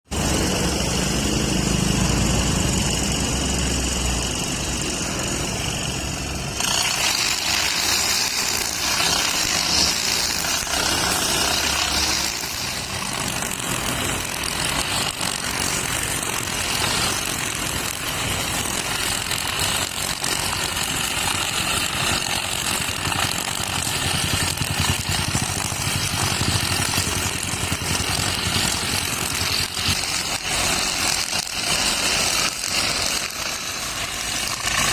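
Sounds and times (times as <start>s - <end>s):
brush cutter running: 0.1s - 34.9s.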